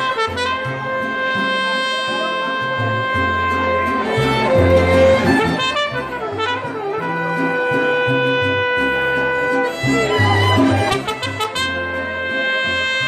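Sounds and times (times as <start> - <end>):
bass line: 0.0 - 13.0
strummed guitars: 0.0 - 13.0
trumpets holding long notes: 0.0 - 13.0.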